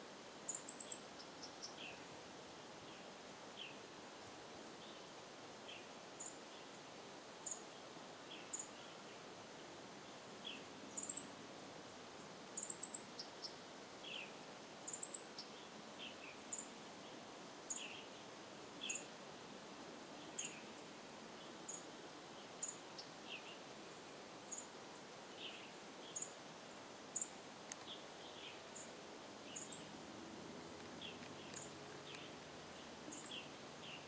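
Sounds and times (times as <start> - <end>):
steady background hiss: 0.0 - 34.0
songbird chirping: 0.5 - 2.1, 2.8 - 3.9, 4.8 - 11.4, 12.1 - 34.0.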